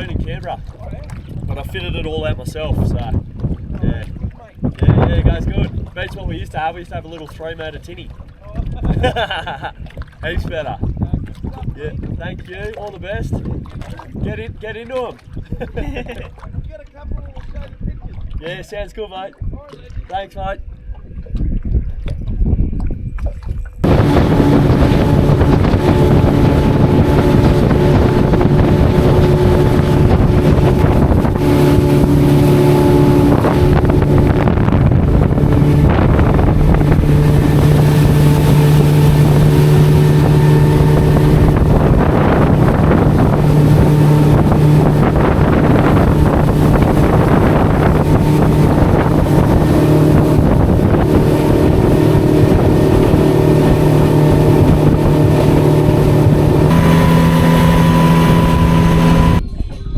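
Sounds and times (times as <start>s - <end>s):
outboard motor running: 0.0s - 18.7s, 22.0s - 59.4s
wind on microphone: 0.0s - 18.7s, 19.4s - 59.9s.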